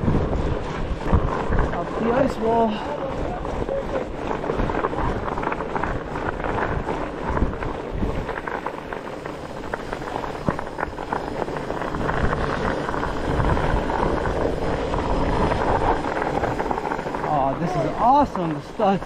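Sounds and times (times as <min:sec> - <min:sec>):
bike tyres crunching over ice: 0:00.0 - 0:19.0.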